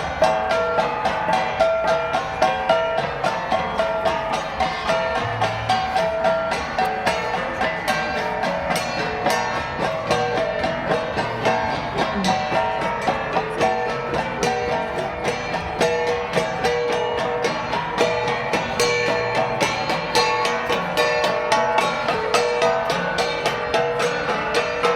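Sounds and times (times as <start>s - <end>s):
flat gongs struck rhythmically: 0.0s - 24.9s.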